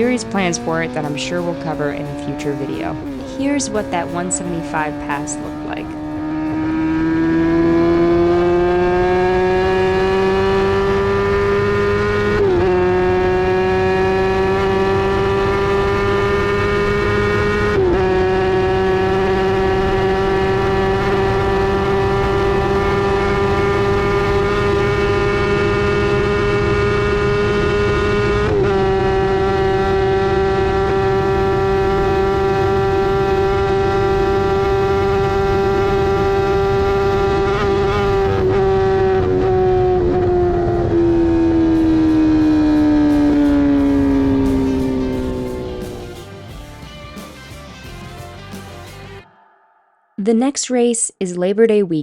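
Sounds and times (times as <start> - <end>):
racing motorcycle engine at high revs: 0.0 - 46.3.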